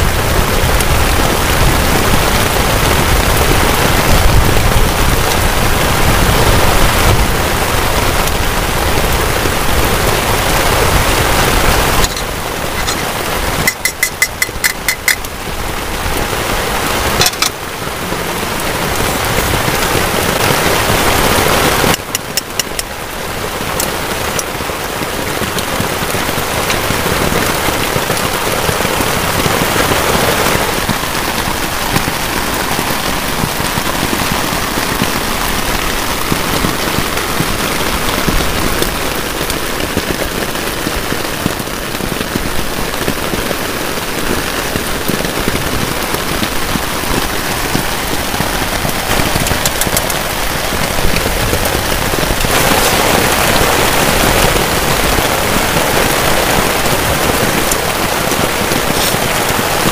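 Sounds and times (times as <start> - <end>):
heavy rain on tarp: 0.0 - 59.9.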